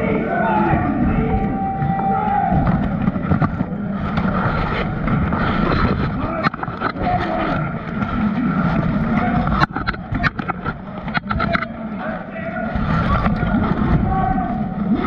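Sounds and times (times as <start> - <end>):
murmur of voices: 0.0 - 15.0.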